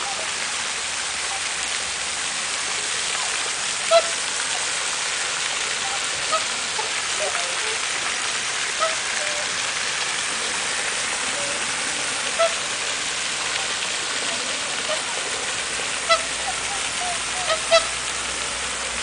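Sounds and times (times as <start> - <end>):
fountain spray on water: 0.0 - 19.0
swans and geese honking: 0.0 - 19.0.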